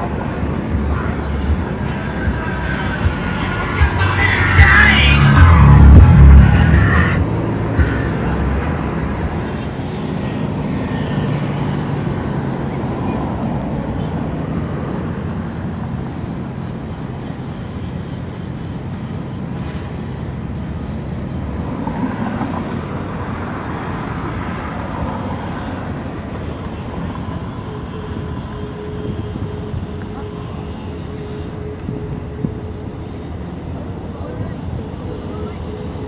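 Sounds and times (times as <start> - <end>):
boat engine rumbling: 0.0 - 36.0.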